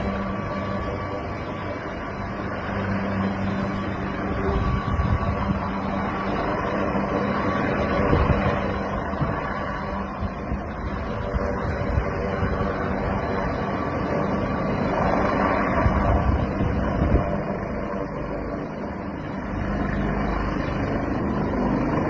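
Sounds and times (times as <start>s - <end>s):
helicopter rotor rumble: 0.0s - 22.0s
helicopter turbine whine: 0.0s - 22.0s.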